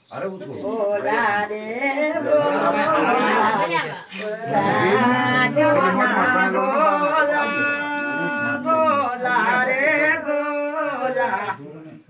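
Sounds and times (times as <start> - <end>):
unaccompanied voices singing: 0.0 - 12.0.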